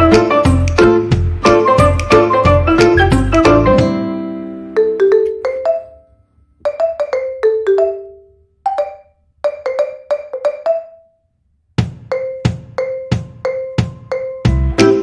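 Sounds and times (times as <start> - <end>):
marimba tune: 0.0 - 4.0, 4.7 - 6.0, 6.6 - 11.0, 12.1 - 15.0.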